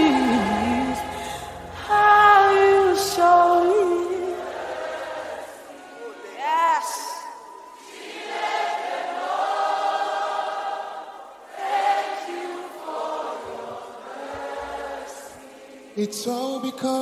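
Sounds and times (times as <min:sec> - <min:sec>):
group singing wordless held notes: 0:00.0 - 0:17.0.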